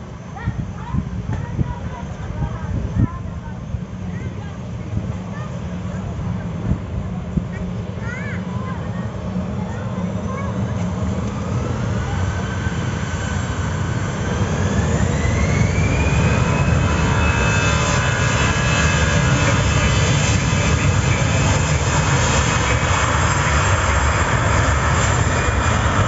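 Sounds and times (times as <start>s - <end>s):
jet engine whine rising: 3.7s - 26.0s.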